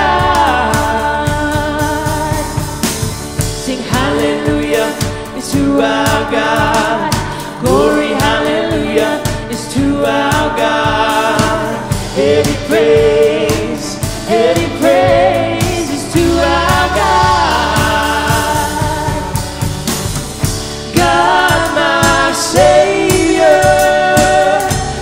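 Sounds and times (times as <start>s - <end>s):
acoustic guitar: 0.0s - 25.0s
bass guitar: 0.0s - 25.0s
drum kit steady beat: 0.0s - 25.0s
keyboard: 0.0s - 25.0s
people singing: 0.0s - 25.0s.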